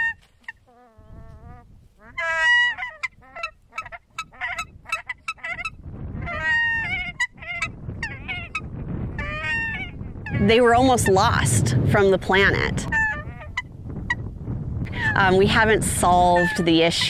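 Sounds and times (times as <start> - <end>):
geese calling: 0.0 - 11.5, 12.4 - 14.2, 16.0 - 17.0.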